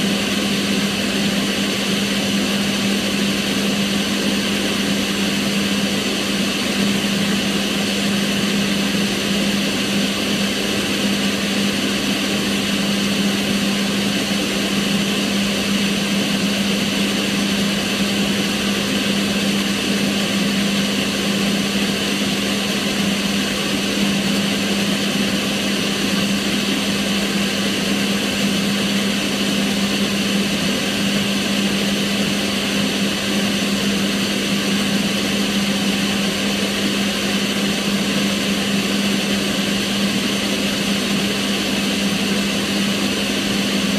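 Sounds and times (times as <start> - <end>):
range hood extractor fan running: 0.0 - 43.9.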